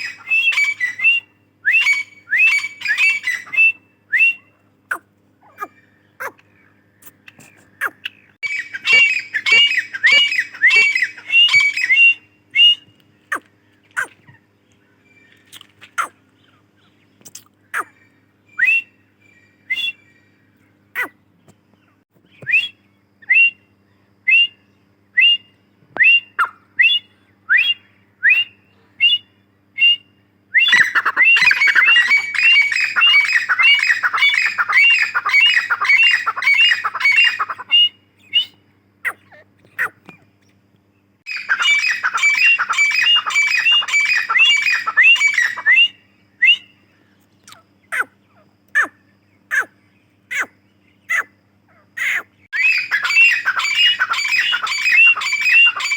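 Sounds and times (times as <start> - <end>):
francolin calling: 0.0 - 21.2, 22.3 - 55.9
faint steady hum: 0.0 - 55.9.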